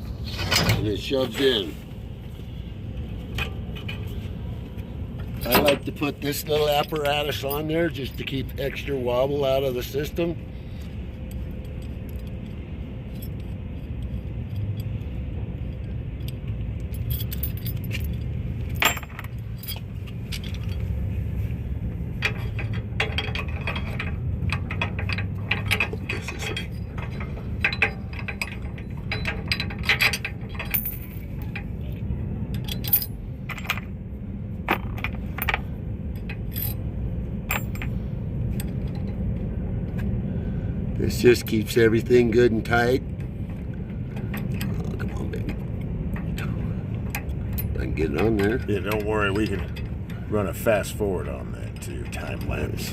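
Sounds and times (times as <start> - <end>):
steady low rumble: 0.0 - 52.9
metal parts clinking and scraping: 0.2 - 1.7, 3.0 - 34.0, 34.6 - 40.1, 42.6 - 52.9.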